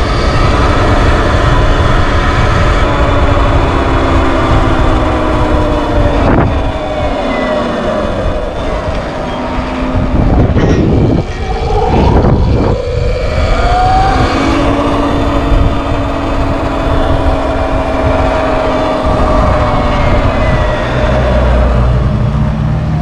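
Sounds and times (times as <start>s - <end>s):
electric motor whine: 0.0s - 22.9s
wind rumble on microphone: 0.0s - 23.0s.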